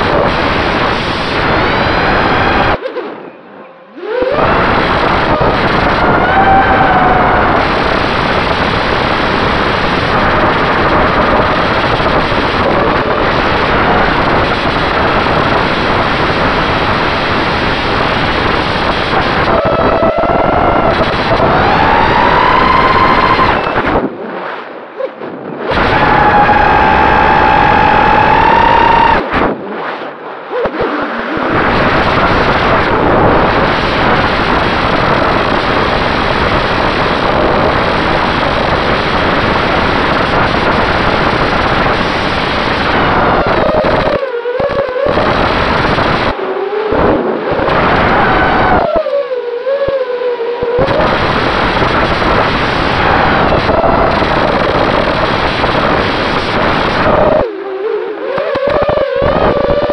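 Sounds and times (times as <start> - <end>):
wind rush: 0.0 - 2.9, 4.1 - 59.9
drone motor and propeller noise: 0.0 - 3.0, 4.1 - 57.5.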